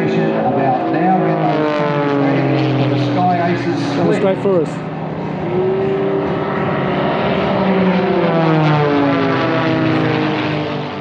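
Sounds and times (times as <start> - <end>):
propeller aircraft flying past: 0.0 - 11.0.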